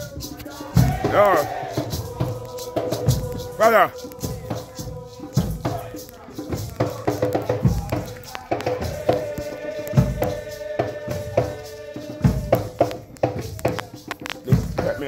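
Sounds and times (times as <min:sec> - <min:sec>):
deep bass drum beats: 0:00.0 - 0:11.6, 0:12.2 - 0:15.0
light drum strokes: 0:00.0 - 0:15.0
voices chanting: 0:00.0 - 0:15.0.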